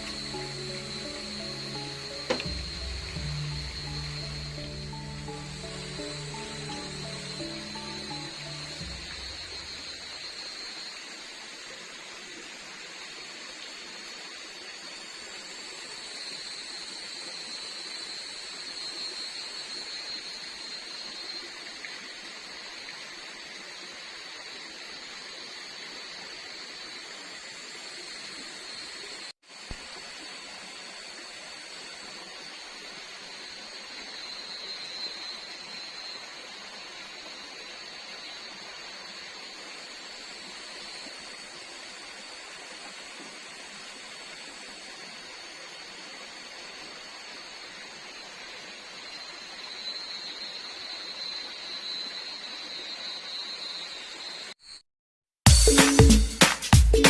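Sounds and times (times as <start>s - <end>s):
steady hiss: 0.0s - 52.9s
insect chorus: 0.0s - 54.8s.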